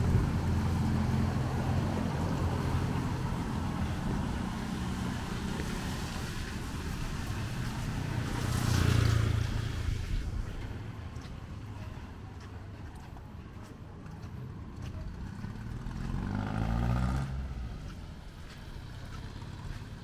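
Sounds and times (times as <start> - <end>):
vehicle passing close: 0.0 - 11.2, 14.8 - 20.0
vehicle engine humming: 0.0 - 20.0.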